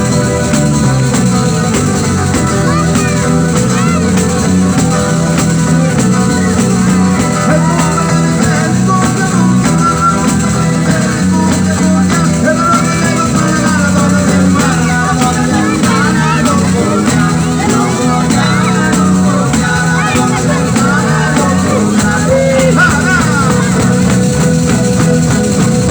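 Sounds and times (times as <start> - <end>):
folk dance music by ensemble: 0.0 - 25.9.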